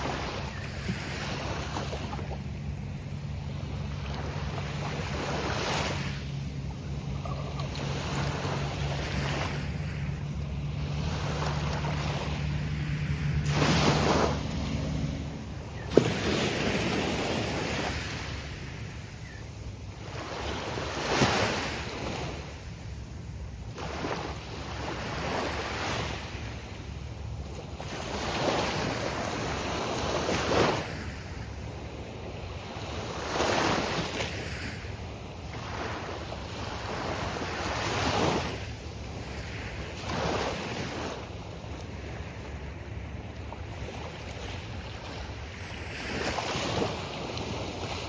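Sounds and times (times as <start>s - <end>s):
waves crashing on a beach: 0.0s - 48.0s.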